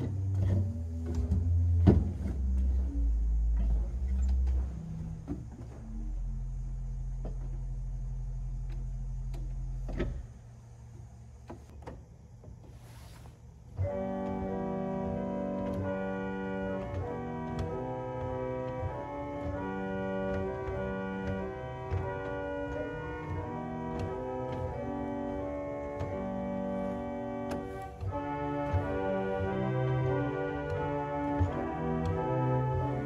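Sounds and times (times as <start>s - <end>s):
pipe organ playing chords: 0.0s - 11.4s, 13.7s - 33.0s.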